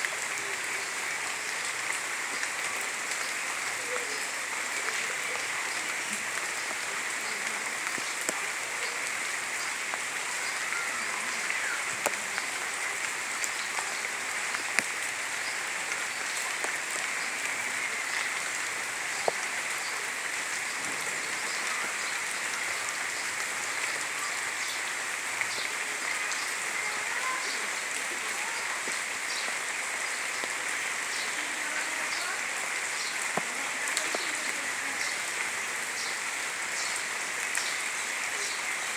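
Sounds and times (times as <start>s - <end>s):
louder raindrop hits: 0.0s - 36.1s
rain hissing on surfaces: 0.0s - 38.9s.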